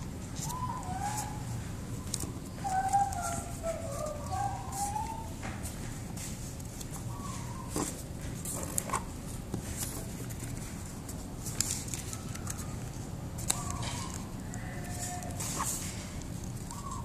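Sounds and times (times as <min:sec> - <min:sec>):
paper crackling being folded: 0:00.0 - 0:17.0.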